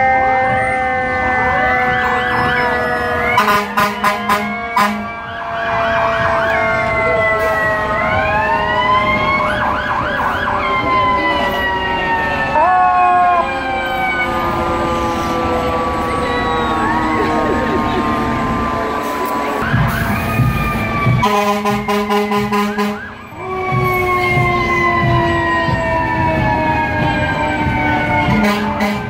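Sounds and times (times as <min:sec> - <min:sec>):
short loud siren blasts: 0:00.0 - 0:17.5, 0:18.2 - 0:29.0
emergency vehicle sirens wailing: 0:00.0 - 0:29.0.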